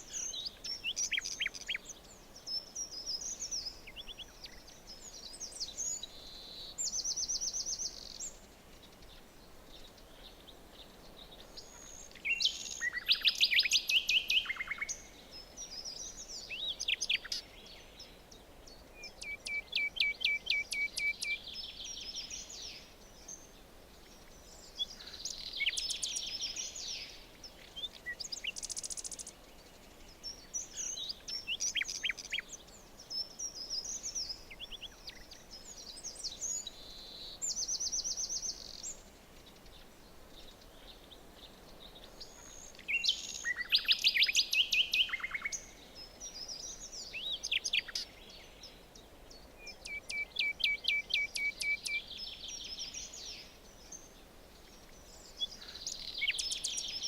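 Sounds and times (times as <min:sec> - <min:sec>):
faint steady hiss: 0:00.0 - 0:57.0
songbirds trilling and chirping: 0:00.0 - 0:57.0.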